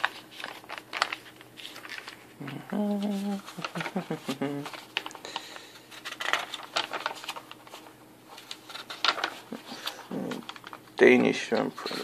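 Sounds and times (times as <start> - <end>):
paper pages turning: 0.0 - 12.0.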